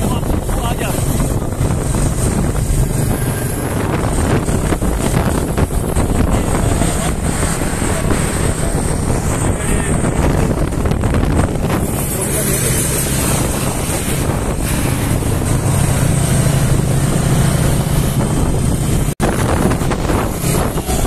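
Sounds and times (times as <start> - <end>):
motorcycle engines running: 0.0 - 21.0
wind buffeting microphone: 0.0 - 21.0.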